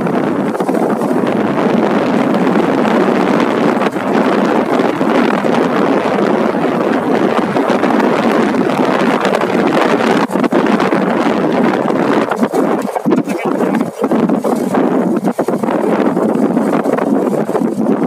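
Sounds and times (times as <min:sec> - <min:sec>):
wind rush over microphone: 0:00.0 - 0:18.0.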